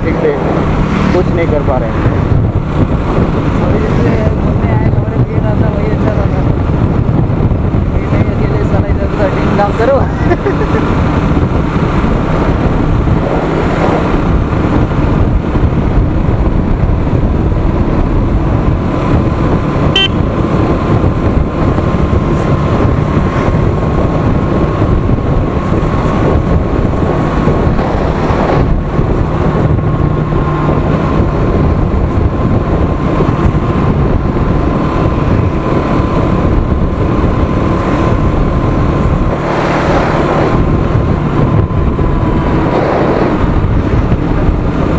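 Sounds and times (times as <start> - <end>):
motorcycle cruising: 0.0 - 44.9
wind rush over microphone: 0.0 - 44.9.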